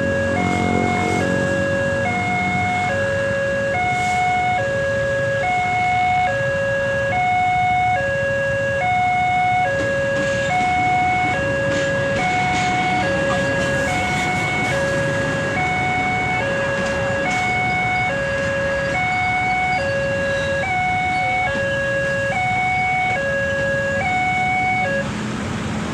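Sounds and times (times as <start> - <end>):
level crossing two-tone siren: 0.0 - 25.1.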